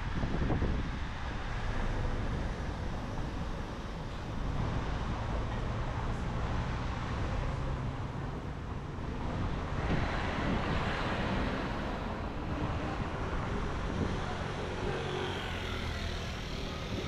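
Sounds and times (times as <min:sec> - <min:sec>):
traffic: 0:00.0 - 0:17.0
wind rumbling on microphone: 0:00.0 - 0:17.0.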